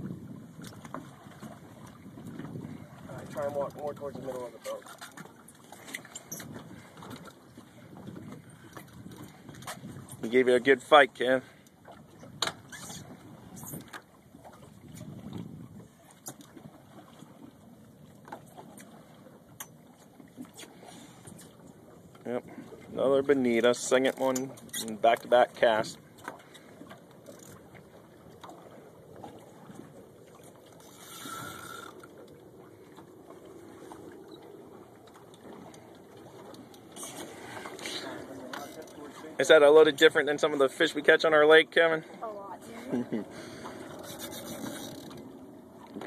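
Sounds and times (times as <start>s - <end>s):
water around a boat: 0.0s - 46.0s
wind: 0.0s - 46.0s.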